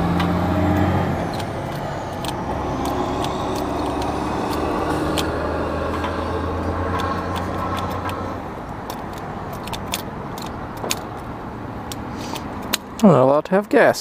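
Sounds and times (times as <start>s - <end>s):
vehicle engine idling: 0.0s - 13.1s.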